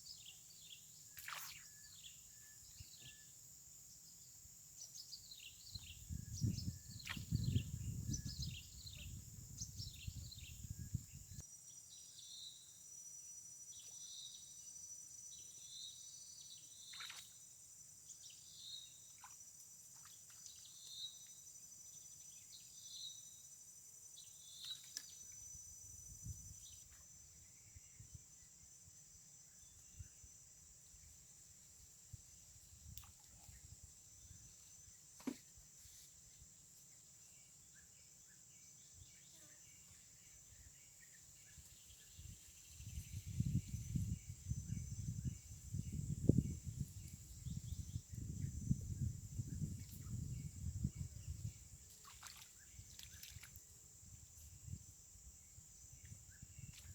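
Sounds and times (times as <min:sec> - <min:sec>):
insects chirring: 0:00.0 - 0:56.9.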